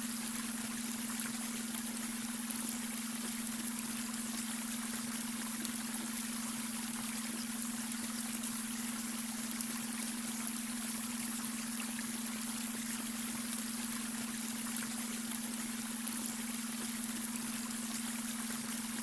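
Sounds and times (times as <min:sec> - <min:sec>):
brook water trickling: 0:00.0 - 0:19.0
steady low hum tone: 0:00.0 - 0:19.0.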